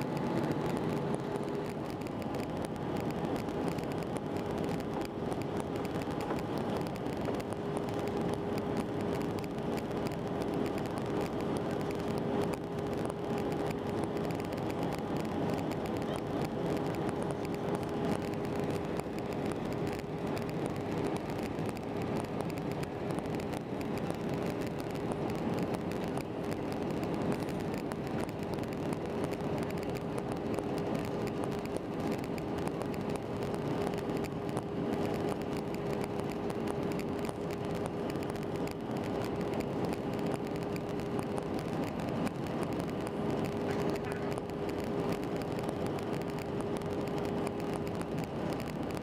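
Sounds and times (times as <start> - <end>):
airplane cabin engine rush: 0.0 - 49.0
mid-pitched hum: 0.0 - 49.0.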